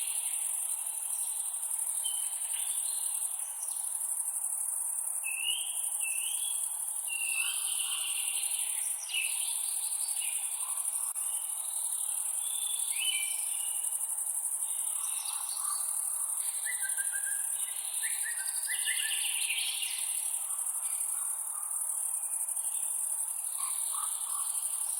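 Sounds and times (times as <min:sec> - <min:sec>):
insects chirping: 0:00.0 - 0:24.9.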